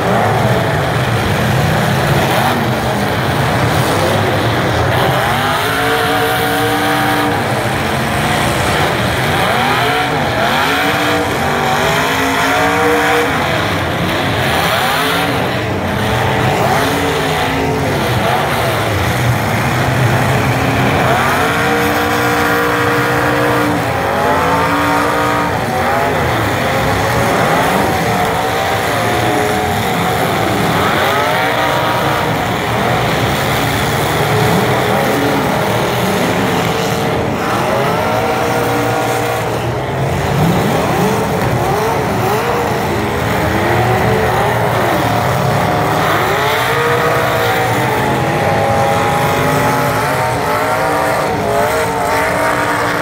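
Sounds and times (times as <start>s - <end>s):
truck engines revving: 0.0s - 53.0s.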